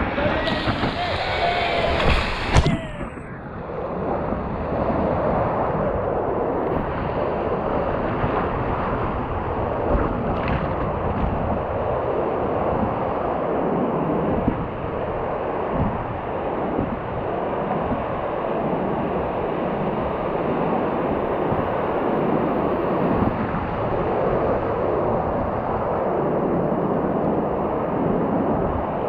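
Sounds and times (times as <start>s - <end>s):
surf rushing: 0.0s - 28.2s
wind on microphone: 0.0s - 29.0s.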